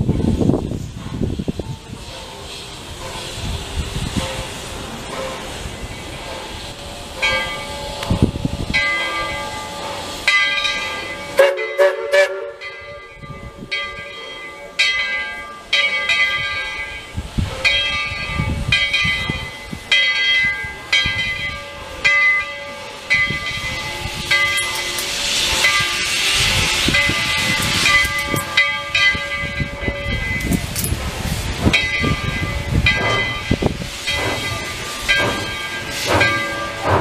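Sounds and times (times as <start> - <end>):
steam hissing: 0.0 - 37.0
locomotive bell ringing: 1.1 - 37.0.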